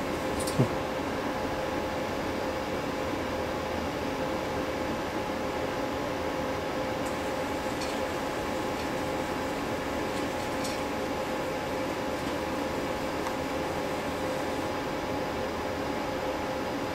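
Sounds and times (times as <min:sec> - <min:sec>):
indoor hum and hiss: 0:00.0 - 0:16.9.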